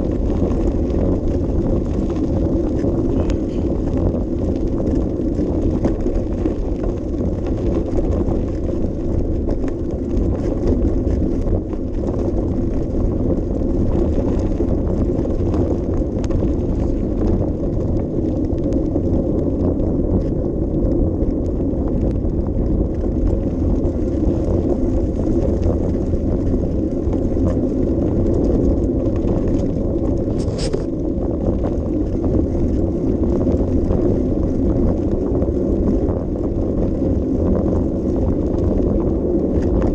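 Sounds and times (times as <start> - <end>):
bicycle rolling noise: 0.0 - 39.9
wind rumble on microphone: 0.0 - 39.9.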